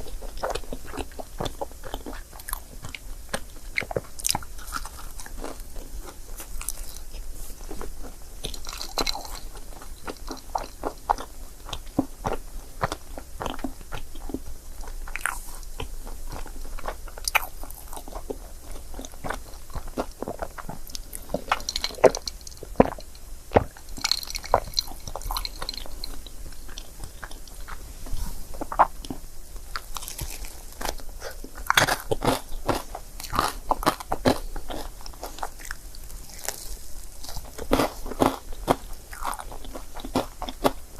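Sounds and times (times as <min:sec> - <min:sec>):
chewing and biting cake: 0:00.0 - 0:27.9, 0:28.5 - 0:40.9.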